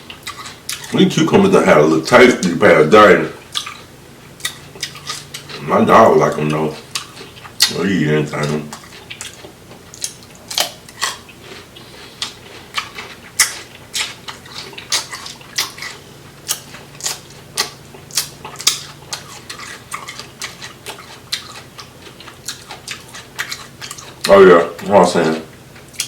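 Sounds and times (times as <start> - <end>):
wet eating smacks and clicks: 0.1 - 1.0, 3.4 - 5.7, 6.3 - 7.8, 8.4 - 24.4, 25.8 - 26.0.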